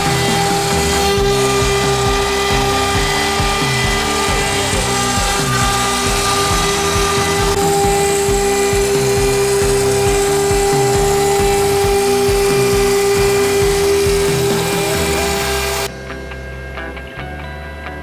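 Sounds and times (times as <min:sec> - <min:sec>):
router spindle high whine: 0:00.0 - 0:17.4
background music: 0:00.0 - 0:18.0.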